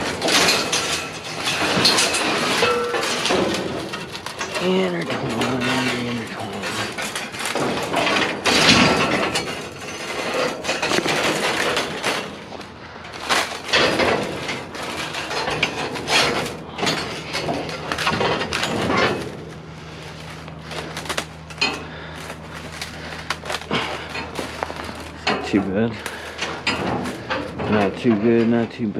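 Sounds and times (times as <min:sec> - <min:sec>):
scrap metal clattering: 0:00.0 - 0:28.8
steady low hum: 0:00.0 - 0:28.9.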